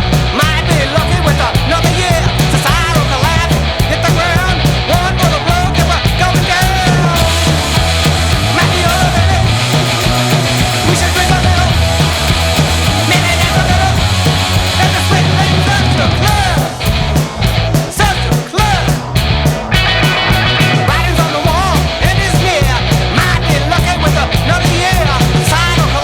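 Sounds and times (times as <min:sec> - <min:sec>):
heavy bass line: 0:00.0 - 0:26.0
punk rock band playing: 0:00.0 - 0:26.0.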